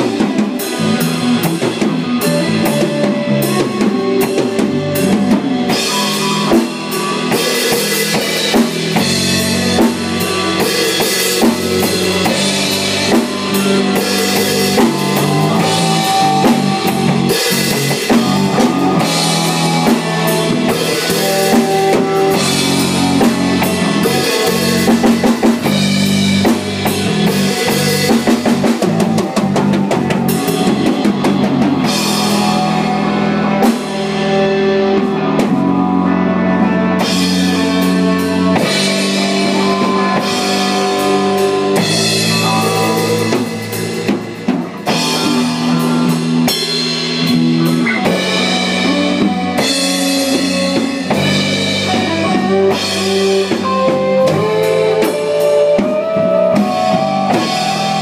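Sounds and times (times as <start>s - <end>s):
band playing: 0.0s - 58.0s.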